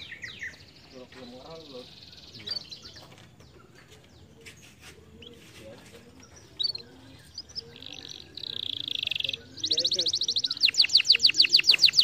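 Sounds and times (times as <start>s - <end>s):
canary singing: 0.0s - 12.0s.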